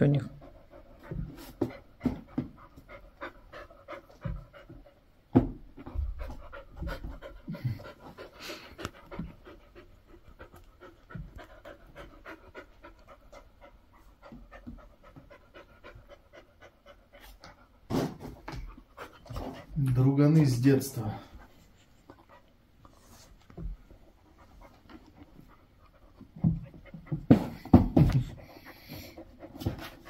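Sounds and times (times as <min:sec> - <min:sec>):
dog panting: 0:00.2 - 0:30.0.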